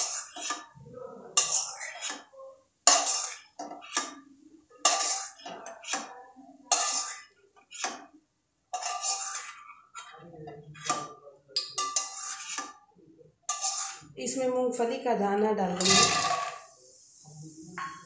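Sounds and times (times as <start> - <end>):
steel spoon scraping a pan: 0.0 - 14.4, 15.7 - 16.8.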